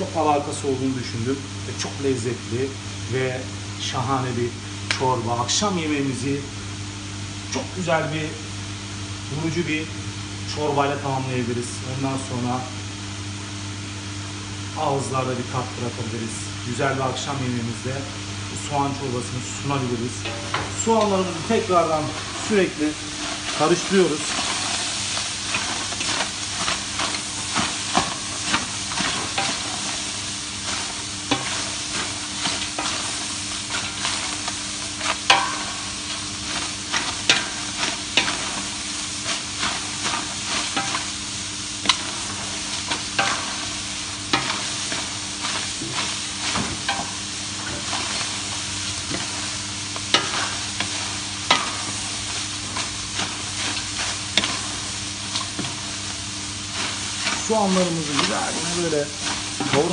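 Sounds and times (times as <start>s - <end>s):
onions sizzling: 0.0s - 59.9s.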